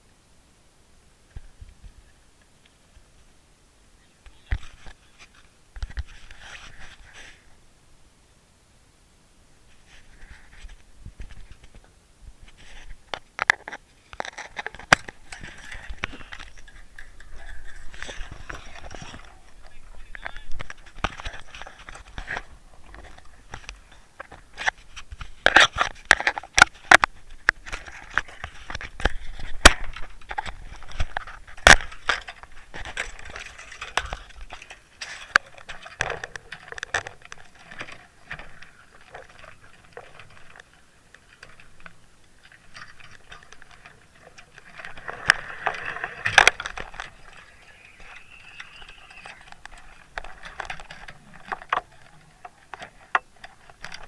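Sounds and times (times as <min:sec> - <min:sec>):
clicking and crackling: 0:10.0 - 0:54.0.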